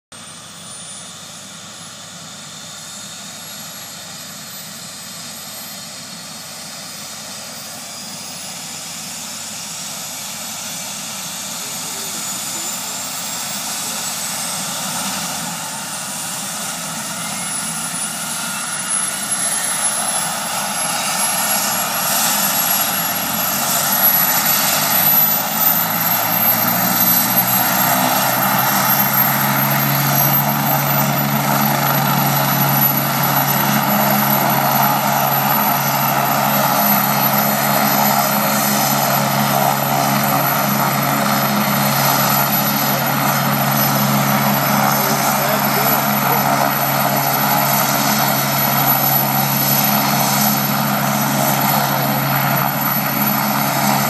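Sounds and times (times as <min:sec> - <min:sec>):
helicopter turbine whine: 0:00.1 - 0:54.0
helicopter rotor beat: 0:00.2 - 0:54.0.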